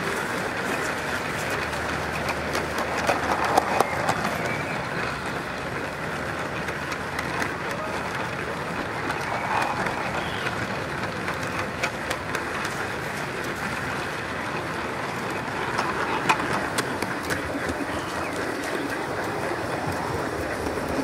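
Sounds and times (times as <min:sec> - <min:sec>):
model train rolling rumble: 0:00.0 - 0:21.0
wheels clicking over rail joints: 0:00.0 - 0:21.0.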